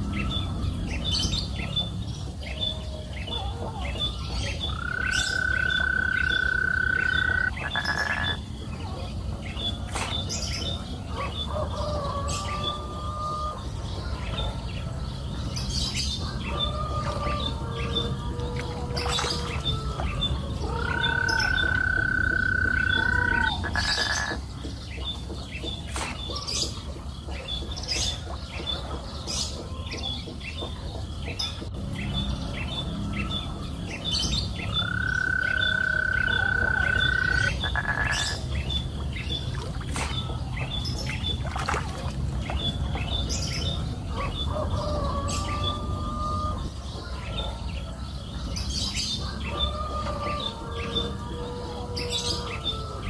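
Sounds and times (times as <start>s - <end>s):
steady low background noise: 0.0s - 53.0s.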